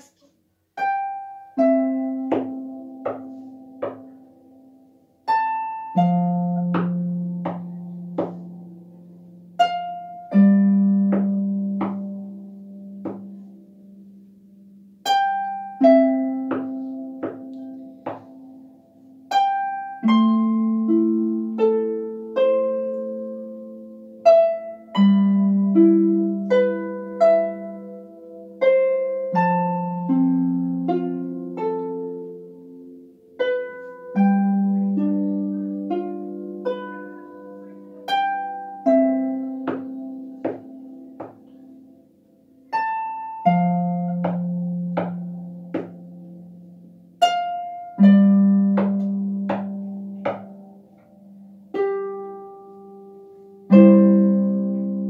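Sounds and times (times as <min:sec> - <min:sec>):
solo harp playing: 0:00.0 - 0:55.0.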